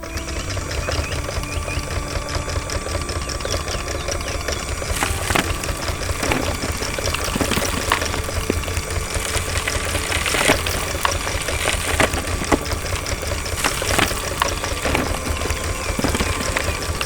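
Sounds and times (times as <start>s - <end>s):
clanks and knocks: 0.0s - 17.0s
heavy machinery engine rumbling: 0.0s - 17.0s.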